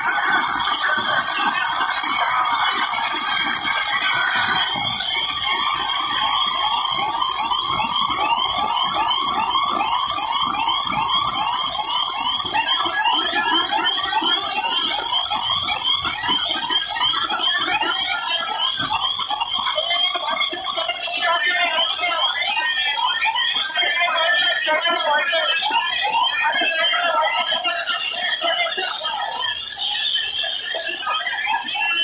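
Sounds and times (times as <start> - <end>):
siren-like electronic sweeps: 0.0 - 32.0.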